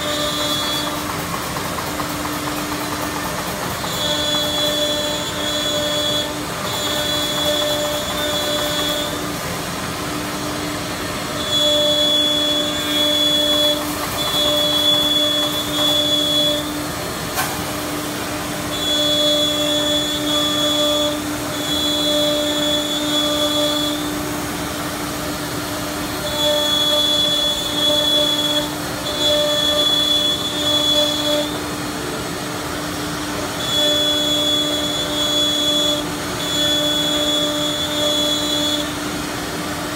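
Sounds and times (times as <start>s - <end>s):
high-pitched bit whine cutting wood: 0.0s - 9.6s, 10.5s - 17.0s, 18.5s - 31.9s, 33.2s - 39.2s
router spindles humming: 0.0s - 39.9s.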